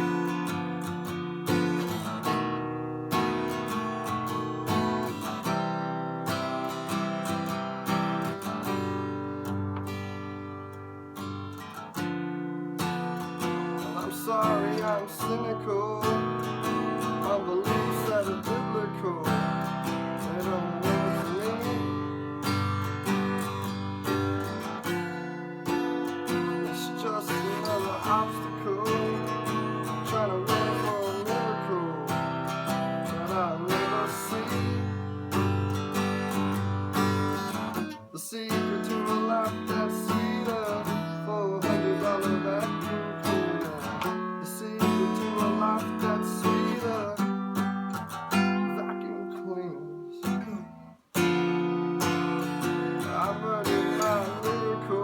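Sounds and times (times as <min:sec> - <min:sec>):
strummed acoustic guitar: 0:00.0 - 0:55.0.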